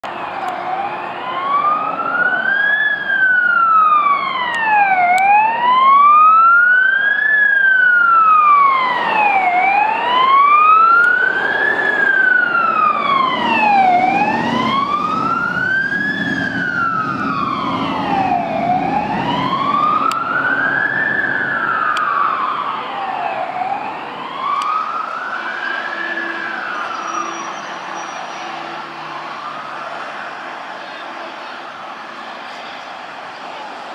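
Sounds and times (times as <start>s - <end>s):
fire engine wail sirens: 0.0s - 33.9s.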